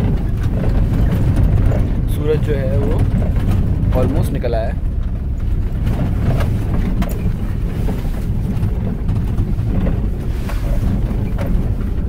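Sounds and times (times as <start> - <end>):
car knocks and rattles: 0.0 - 12.0
engine and tyres rumbling: 0.0 - 12.0.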